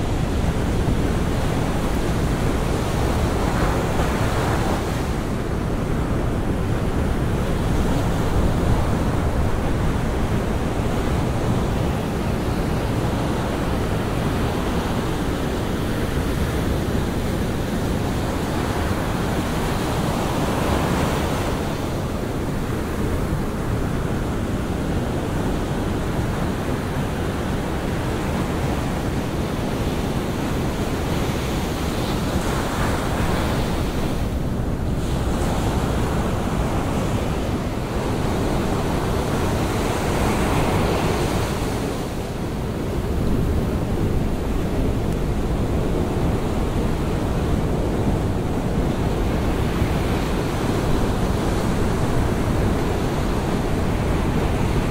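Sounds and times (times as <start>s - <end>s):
waves breaking on sand beach: 0.0s - 54.9s.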